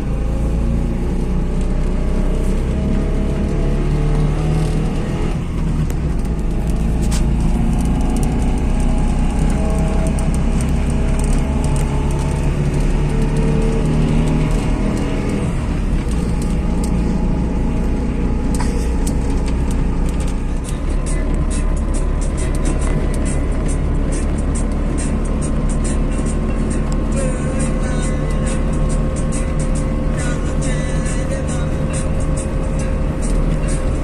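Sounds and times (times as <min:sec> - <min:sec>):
two-stroke car engine driving: 0:00.0 - 0:34.0.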